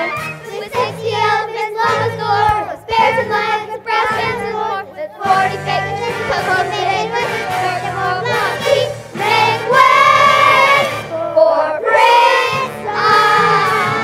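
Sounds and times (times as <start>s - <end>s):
children's chorus singing: 0.0s - 14.0s
instrumental accompaniment: 0.0s - 14.0s.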